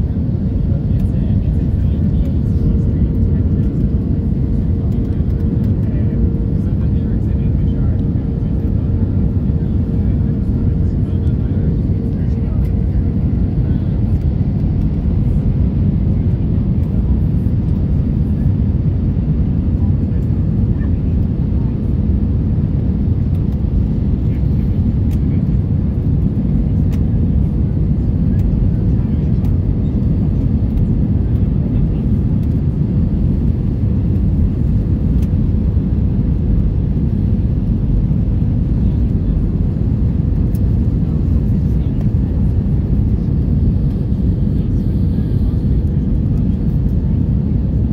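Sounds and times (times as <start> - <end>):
airplane cabin rumble: 0.0 - 47.9.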